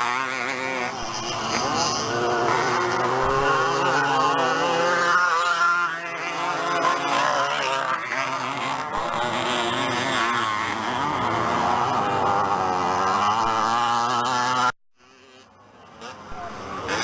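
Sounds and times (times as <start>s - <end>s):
moped engines revving: 0.0s - 17.0s.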